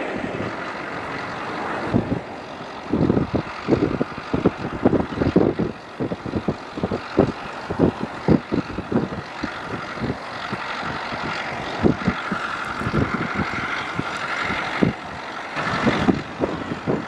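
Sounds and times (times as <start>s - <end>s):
tractor diesel engine running: 0.0s - 17.0s
wind buffeting microphone: 0.0s - 17.0s.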